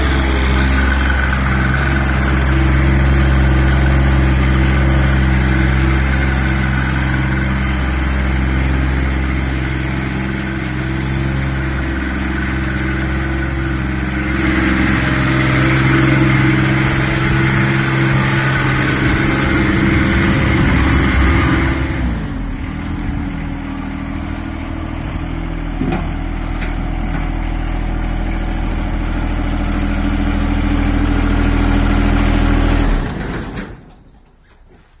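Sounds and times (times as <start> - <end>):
vehicle engine running: 0.0 - 33.6.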